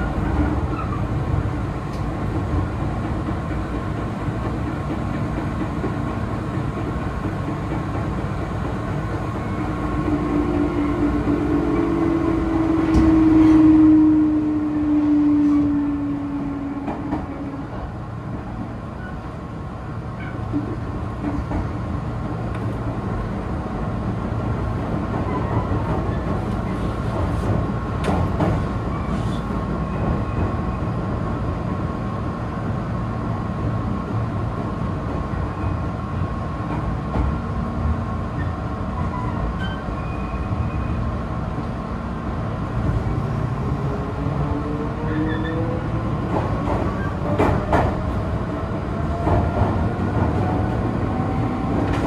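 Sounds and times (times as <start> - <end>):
electric train rumbling: 0.0 - 52.0.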